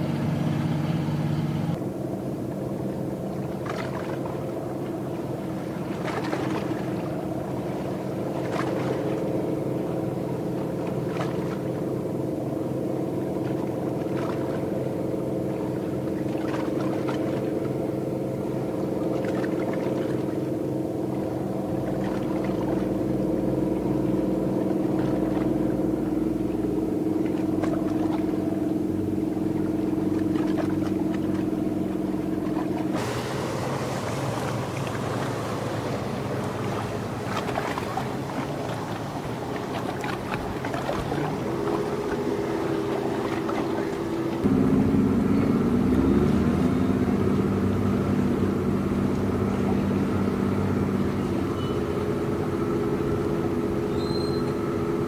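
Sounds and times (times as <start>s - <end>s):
boat engine droning: 0.0s - 55.0s
deeper rumble: 4.4s - 55.0s.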